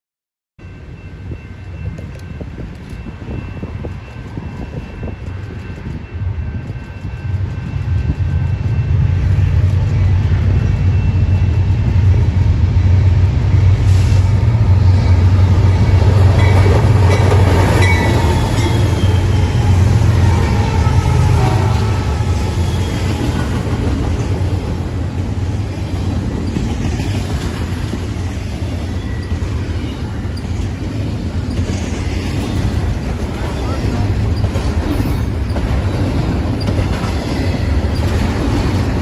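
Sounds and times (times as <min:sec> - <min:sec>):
train passing rumble: 0:00.6 - 0:39.0.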